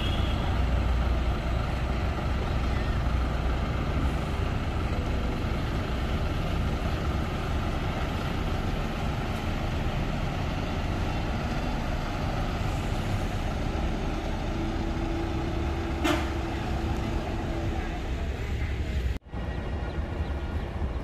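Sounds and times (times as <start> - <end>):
bus engine idling: 0.0 - 21.0.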